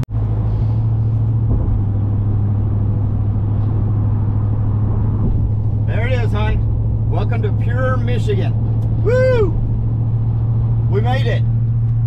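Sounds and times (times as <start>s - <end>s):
car driving drone: 0.0s - 12.0s
road noise rumble: 0.0s - 12.0s.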